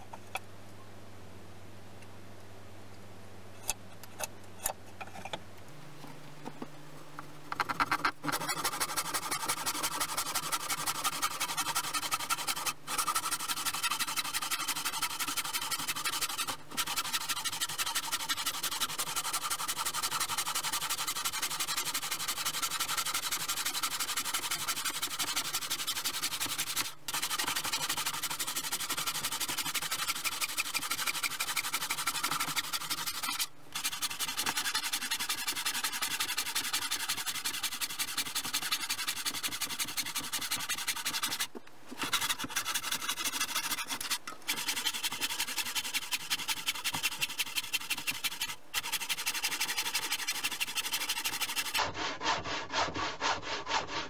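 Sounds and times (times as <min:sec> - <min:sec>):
hand tool rasping on wood: 0:07.6 - 0:54.0.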